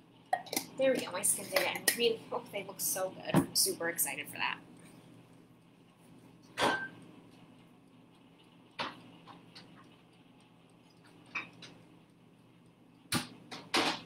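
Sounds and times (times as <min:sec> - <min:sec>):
air fryer humming: 0:00.0 - 0:14.0.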